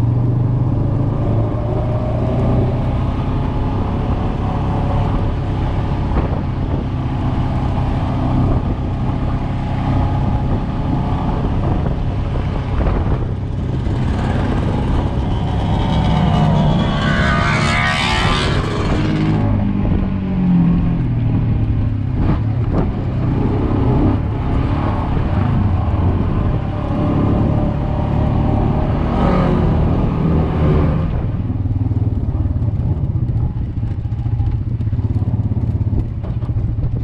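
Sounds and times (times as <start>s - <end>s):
dirt bike passing: 0.0s - 37.0s
utility vehicle engine running: 0.0s - 37.0s.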